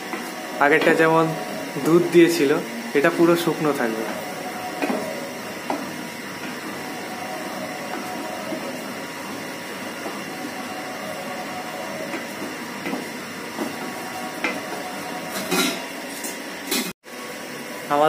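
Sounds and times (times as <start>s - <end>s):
frying hiss: 0.0s - 18.0s.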